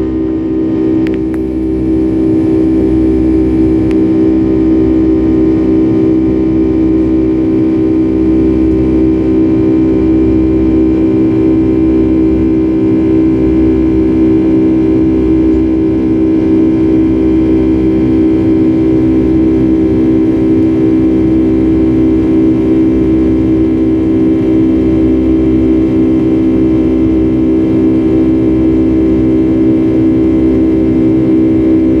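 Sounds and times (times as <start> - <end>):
jet engine drone in cabin: 0.0 - 32.0.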